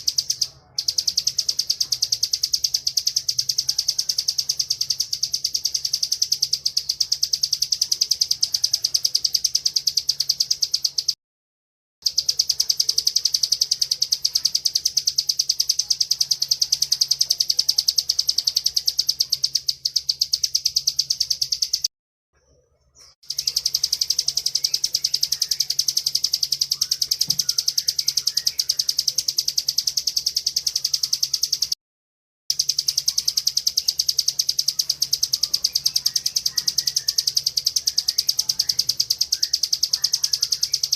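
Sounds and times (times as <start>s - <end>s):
bird singing a rattling trill: 0.0s - 11.2s, 12.0s - 21.9s, 23.2s - 31.8s, 32.5s - 40.9s.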